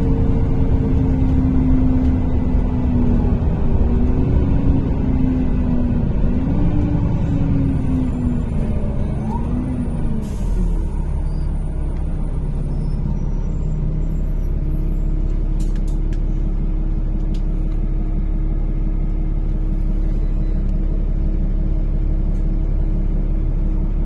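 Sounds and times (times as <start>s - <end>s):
bus engine drone: 0.0s - 24.0s
road rumble: 0.0s - 24.0s.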